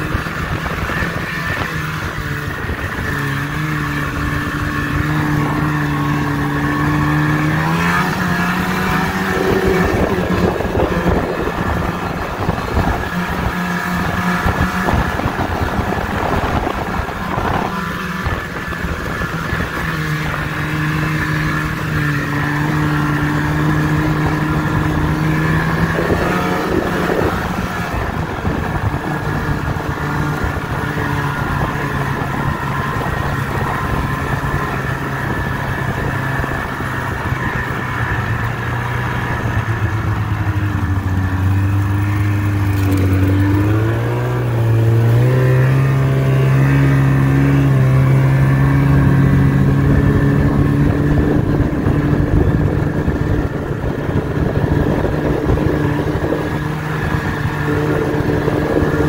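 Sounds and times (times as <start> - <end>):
snowmobile engine running: 0.0 - 59.0
snowmobile track hiss and rumble: 0.0 - 59.0.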